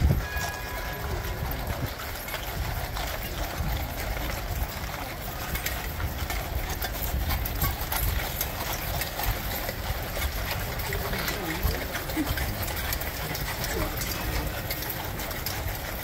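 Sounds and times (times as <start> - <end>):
hooves clopping on gravel: 0.0 - 16.0.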